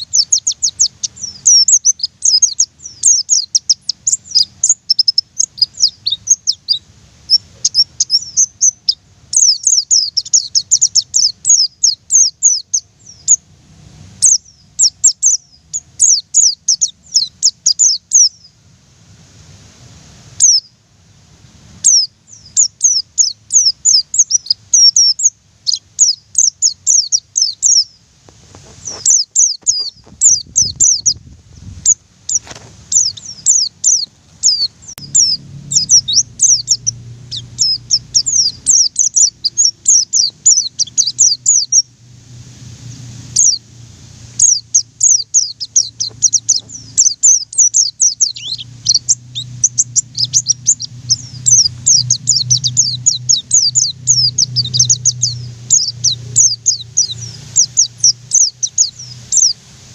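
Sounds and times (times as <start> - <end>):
bird singing high thin chirps: 0.0 - 13.5, 14.2 - 18.6, 20.4 - 20.8, 21.8 - 28.0, 28.8 - 42.0, 42.8 - 43.7, 44.4 - 59.6.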